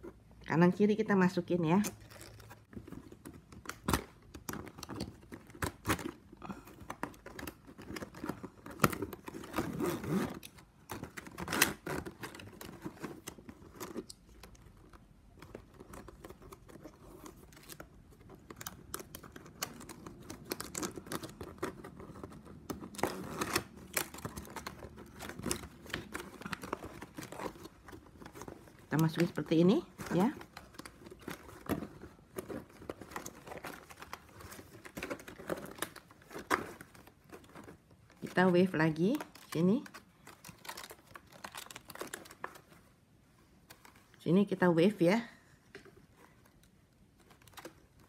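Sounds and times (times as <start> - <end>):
plastic strapping rustling and clicking: 1.7 - 44.2.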